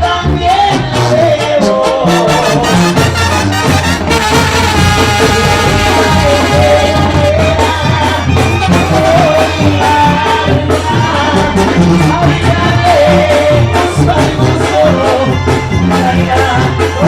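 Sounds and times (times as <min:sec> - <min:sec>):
bass line: 0:00.0 - 0:17.0
drums keeping beat: 0:00.4 - 0:17.0.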